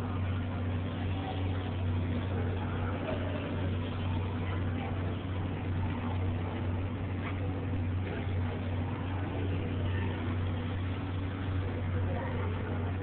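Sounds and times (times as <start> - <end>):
low machine hum: 0.0 - 13.0
noisy background: 0.0 - 13.0.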